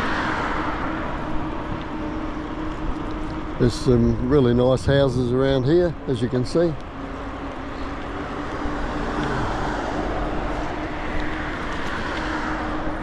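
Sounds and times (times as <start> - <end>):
low traffic rumble: 0.0 - 13.0
vehicle passing: 0.0 - 13.0.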